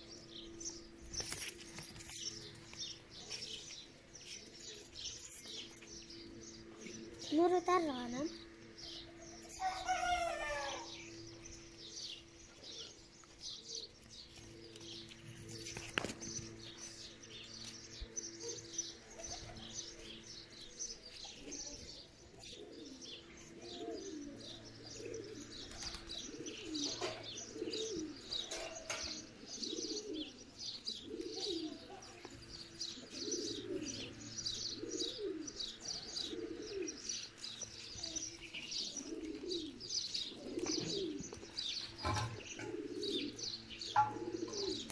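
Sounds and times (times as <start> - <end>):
birds chirping: 0.0 - 44.9
pigeons cooing: 0.0 - 44.9.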